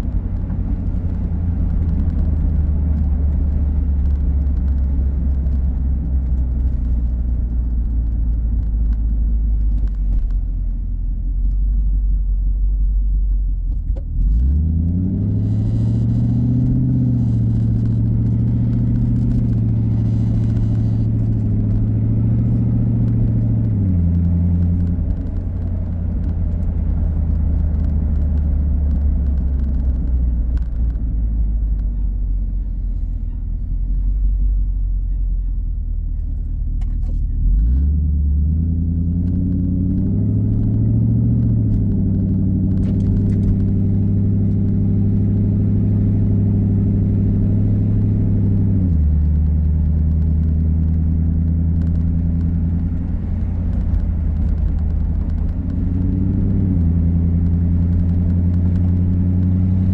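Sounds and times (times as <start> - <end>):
car engine deep drone: 0.0 - 59.9.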